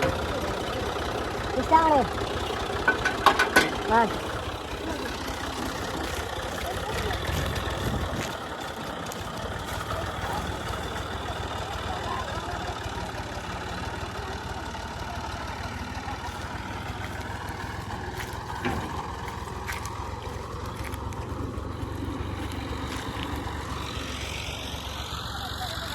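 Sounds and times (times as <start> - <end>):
combine harvester engine running: 0.0 - 25.9.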